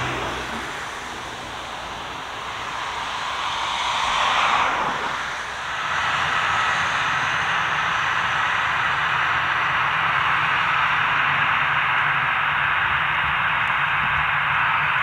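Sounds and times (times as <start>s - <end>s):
aircraft engine rush: 0.0s - 15.0s
faint whine: 0.0s - 15.0s.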